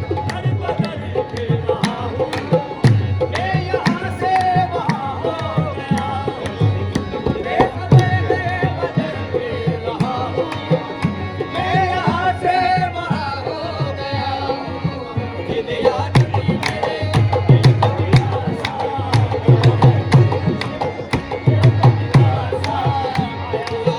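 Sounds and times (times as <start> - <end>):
tabla drumming: 0.0 - 23.9.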